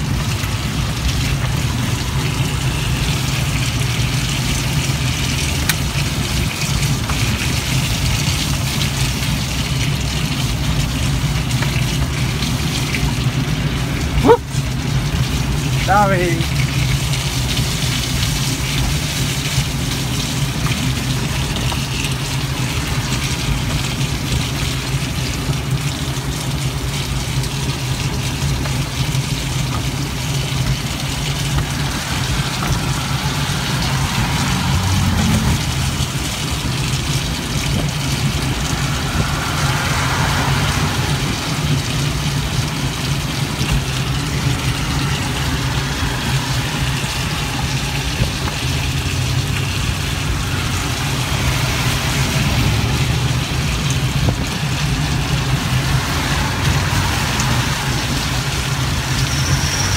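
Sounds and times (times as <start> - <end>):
road and rain noise: 0.0 - 59.9.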